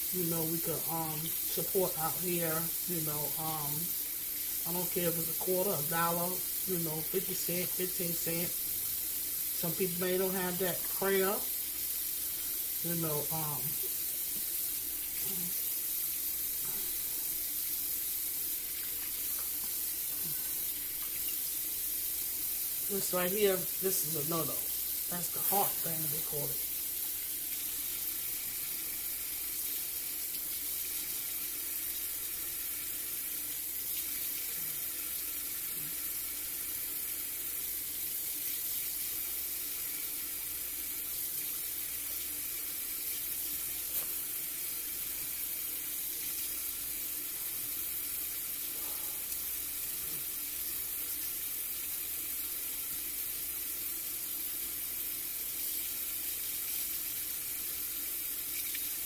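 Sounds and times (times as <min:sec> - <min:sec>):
faucet running into metal sink: 0:00.4 - 0:59.0.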